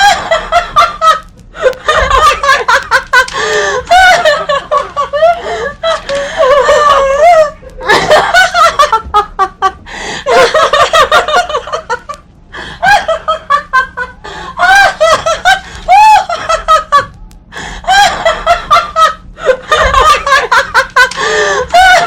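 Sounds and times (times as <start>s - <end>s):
women laughing hard: 0.0s - 22.0s.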